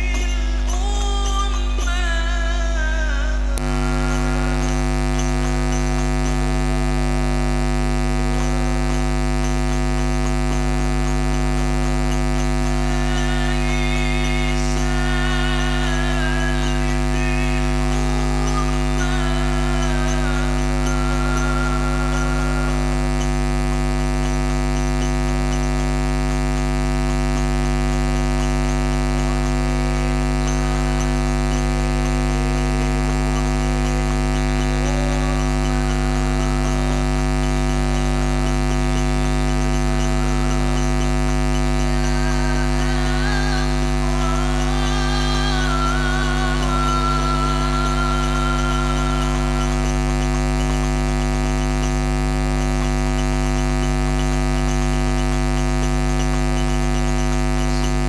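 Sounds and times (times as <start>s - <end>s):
electrical mains hum: 0.0s - 58.0s
faint wavering melody: 3.6s - 58.0s.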